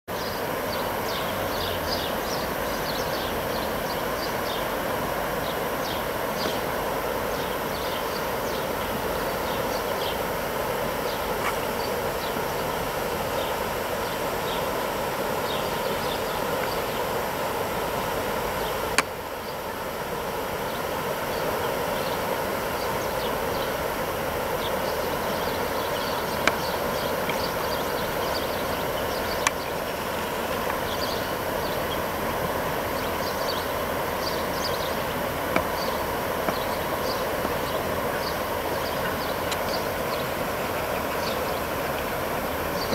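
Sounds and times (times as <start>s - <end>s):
river water rushing over shallows: 0.1s - 42.9s
small birds chirping: 0.1s - 42.9s.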